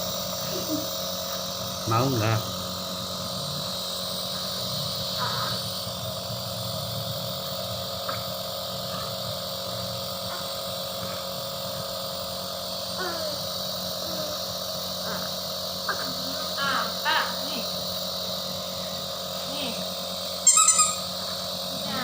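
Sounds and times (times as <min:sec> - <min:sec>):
nebulizer compressor humming: 0:00.0 - 0:22.0.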